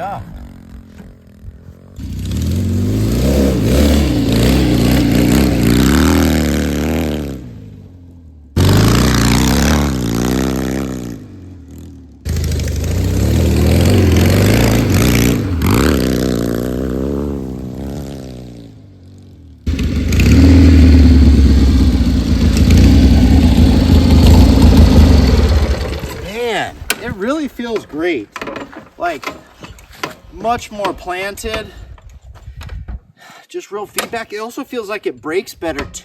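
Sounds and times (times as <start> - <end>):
motorcycle engine revving: 0.0 - 30.4.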